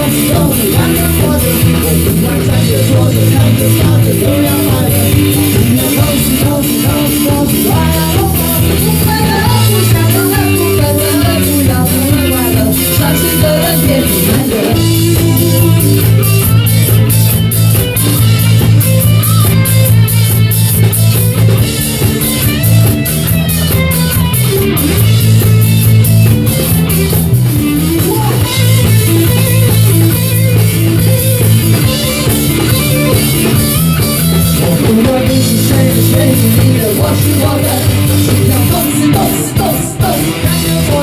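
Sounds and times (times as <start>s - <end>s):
drum kit: 0.0s - 41.0s
electric guitar: 0.0s - 41.0s.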